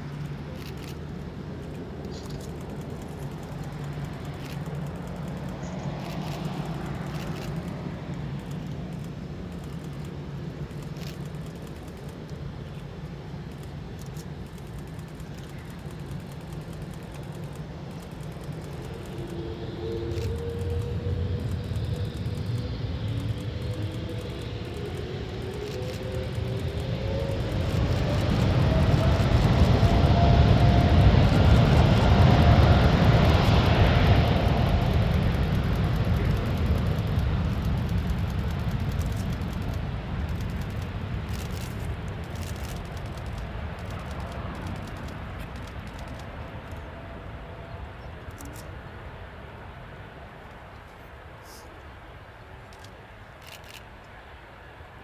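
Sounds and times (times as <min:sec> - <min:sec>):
jet airliner engines whining: 0:00.0 - 0:55.0.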